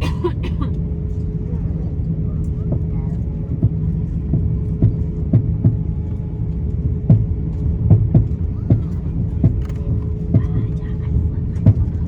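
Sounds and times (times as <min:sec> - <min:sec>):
aircraft cabin rumble and hum: 0:00.0 - 0:12.0.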